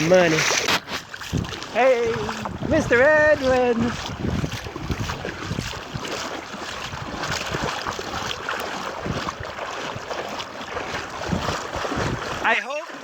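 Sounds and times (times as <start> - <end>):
floodwater splashing and sloshing: 0.0 - 13.0.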